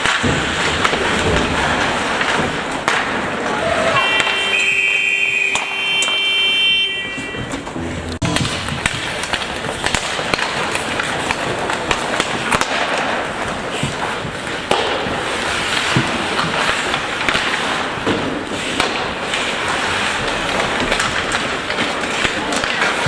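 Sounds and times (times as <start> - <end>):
hockey sticks and puck knocking: 0.0 - 23.0
skates scraping ice: 0.0 - 23.0.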